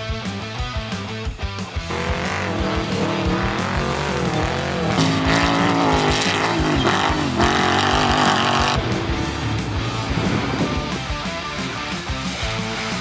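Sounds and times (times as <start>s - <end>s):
race car engine revving: 1.7s - 13.0s.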